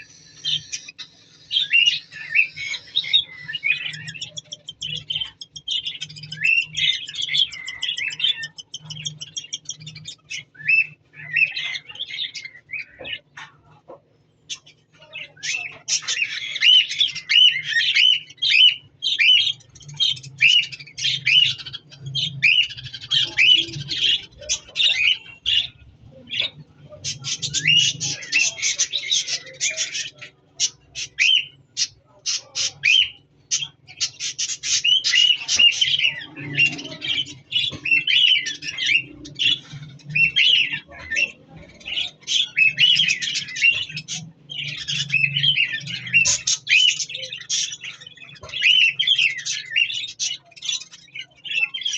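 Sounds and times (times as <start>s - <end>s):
budgerigars chattering and squawking: 0.0s - 51.9s.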